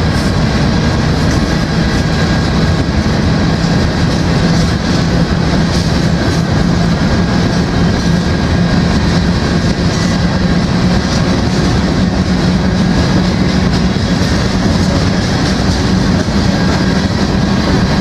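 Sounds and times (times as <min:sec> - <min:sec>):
steady low hum: 0:00.0 - 0:18.0
train wheels on rails: 0:00.0 - 0:18.0.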